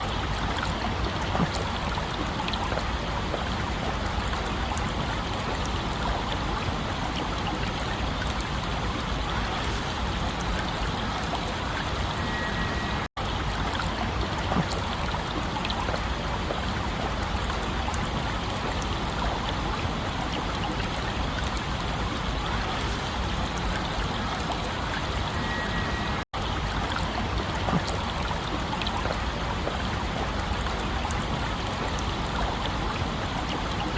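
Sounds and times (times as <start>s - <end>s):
stream water trickling: 0.0s - 33.9s.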